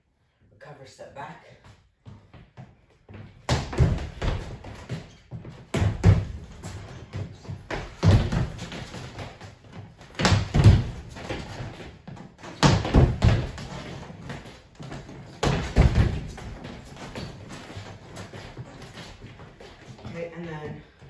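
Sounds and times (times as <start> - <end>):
feet thudding on hardwood floor: 2.0 - 21.0.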